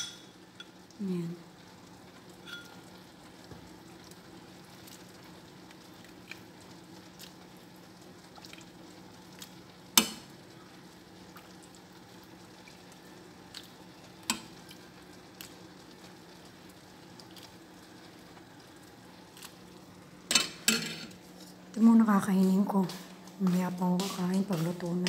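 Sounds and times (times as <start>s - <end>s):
soup simmering and bubbling: 0.1s - 21.8s.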